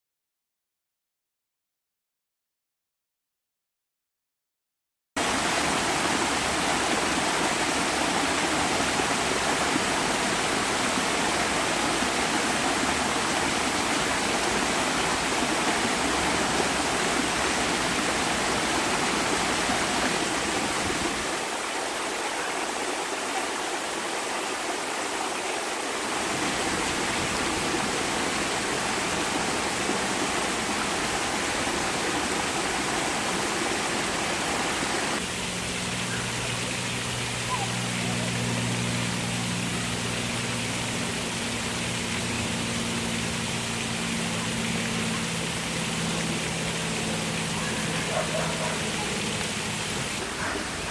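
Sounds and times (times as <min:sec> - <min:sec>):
waterfall rushing: 0:05.2 - 0:50.9.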